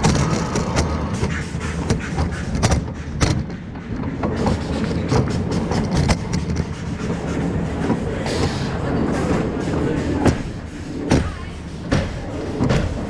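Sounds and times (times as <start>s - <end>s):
clacks and knocks: 0.0s - 13.0s
roller coaster wheels rumbling: 0.0s - 13.0s.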